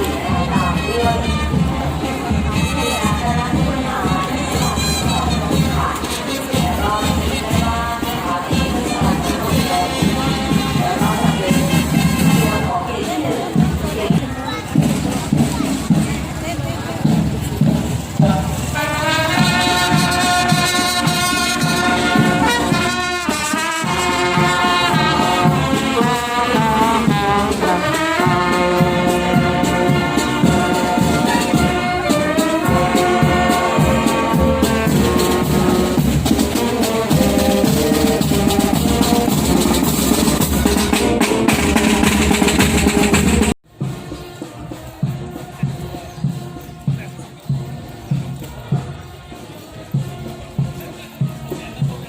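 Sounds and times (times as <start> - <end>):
brass band music: 0.0 - 52.0.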